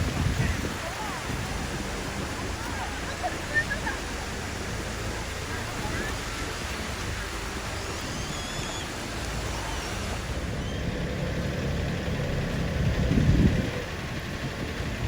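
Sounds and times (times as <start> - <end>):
loud low rumble: 0.0 - 15.0
low engine drone: 0.0 - 15.0
surf washing: 0.0 - 15.0.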